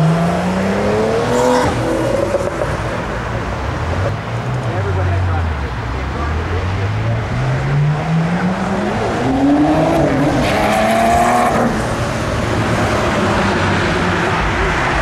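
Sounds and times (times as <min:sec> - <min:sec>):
car engine accelerating hard: 0:00.0 - 0:15.0
road noise: 0:00.0 - 0:15.0.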